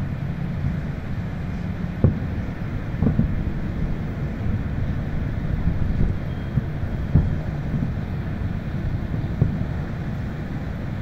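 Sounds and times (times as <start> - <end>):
steady low rumble: 0.0 - 11.0
distant fireworks booming: 1.9 - 11.0.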